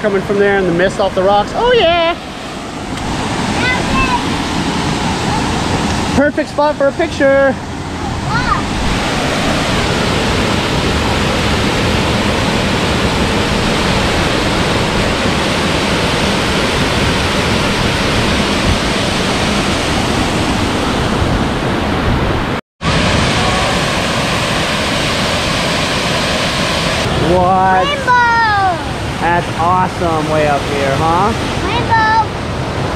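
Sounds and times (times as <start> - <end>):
waterfall roaring over rocks: 0.0 - 32.9.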